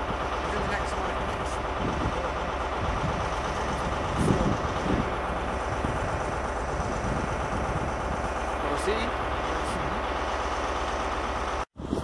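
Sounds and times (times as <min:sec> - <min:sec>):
diesel train engines idling: 0:00.0 - 0:12.0.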